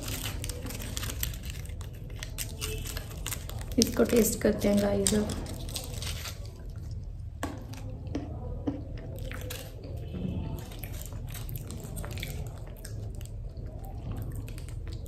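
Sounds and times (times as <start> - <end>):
person chewing chocolate: 0.0 - 15.0.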